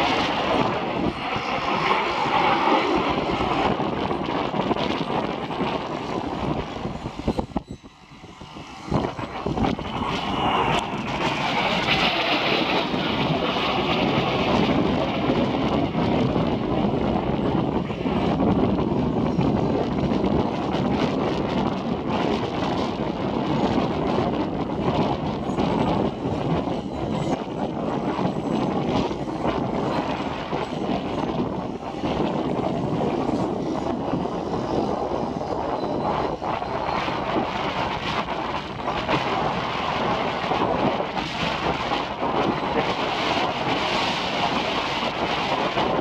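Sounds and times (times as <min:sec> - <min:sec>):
jet roar overhead: 0:00.0 - 0:46.0
wind buffeting microphone: 0:00.0 - 0:46.0.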